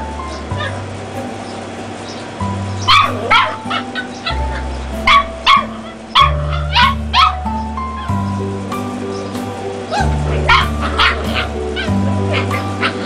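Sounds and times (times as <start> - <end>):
background music with bass: 0.0 - 13.0
puppies yapping: 0.0 - 13.0.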